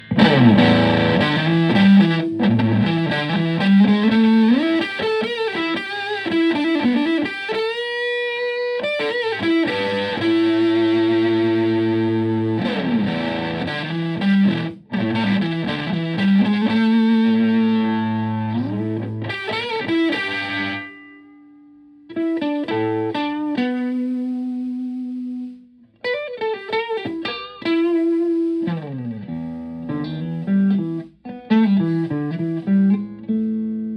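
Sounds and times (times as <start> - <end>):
fuzz electric guitar riffs: 0.0 - 33.9.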